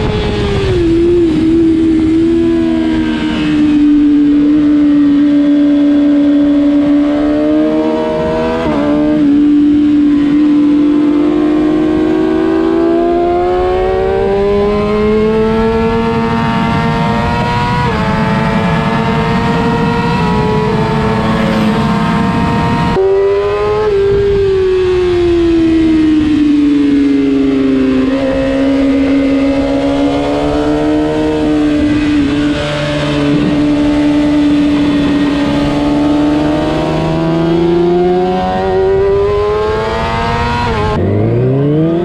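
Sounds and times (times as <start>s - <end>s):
motorcycle engine revving high: 0.0s - 42.0s.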